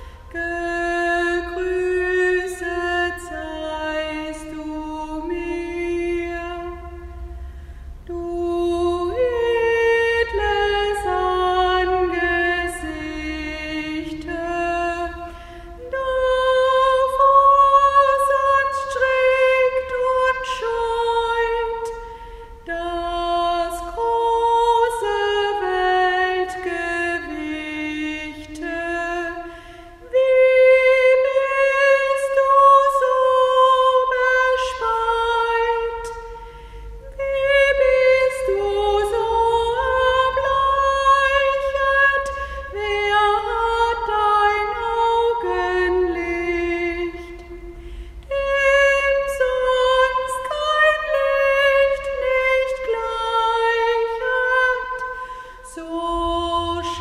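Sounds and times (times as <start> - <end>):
woman singing a slow hymn: 0.0 - 57.0.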